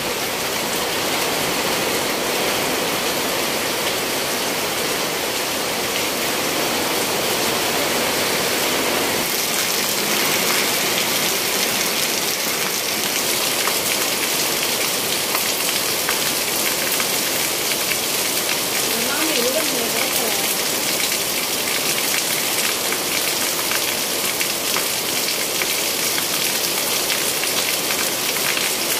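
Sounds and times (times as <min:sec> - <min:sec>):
heavy rain: 0:00.0 - 0:28.9.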